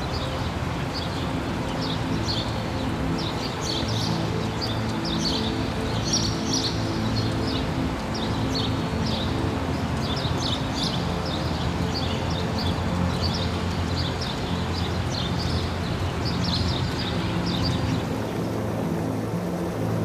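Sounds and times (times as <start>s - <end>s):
calm background music: 0.0s - 20.0s
small birds chirping: 0.0s - 20.0s.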